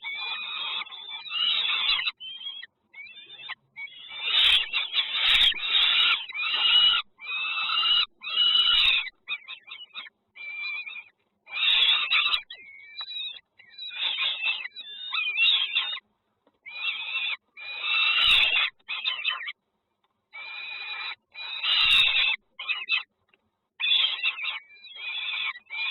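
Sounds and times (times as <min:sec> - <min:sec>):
nestling birds begging: 0:00.0 - 0:19.6, 0:20.4 - 0:23.1, 0:23.8 - 0:25.9.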